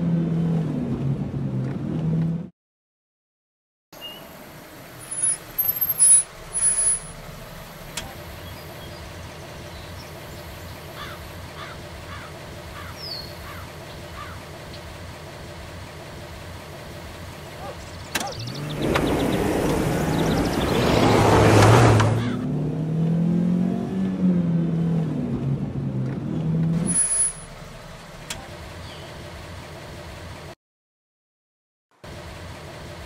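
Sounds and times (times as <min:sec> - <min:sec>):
vehicle engine pulling up: 0:04.0 - 0:30.6.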